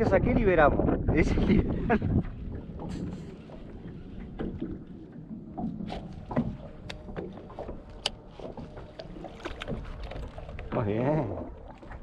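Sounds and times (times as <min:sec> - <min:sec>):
waves lapping against boat hull: 0:00.0 - 0:12.0
wind rumbling on microphone: 0:00.0 - 0:12.0.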